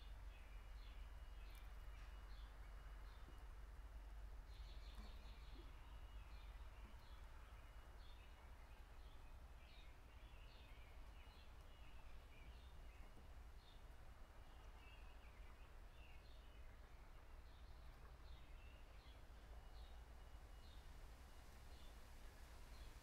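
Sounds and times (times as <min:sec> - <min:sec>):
distant birds chirping: 0:00.0 - 0:21.0
low steady rumble: 0:00.0 - 0:23.0.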